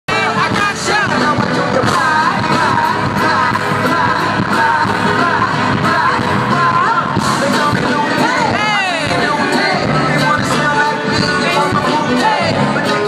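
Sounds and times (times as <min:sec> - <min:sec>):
loud amplified band music: 0:00.1 - 0:13.0
rapping vocals: 0:00.1 - 0:13.0.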